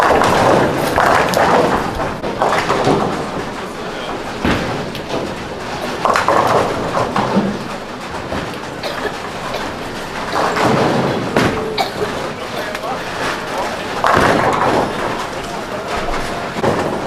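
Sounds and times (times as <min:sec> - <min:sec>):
bowling balls rolling: 0:00.0 - 0:17.0
bowling pins clattering: 0:00.0 - 0:17.0.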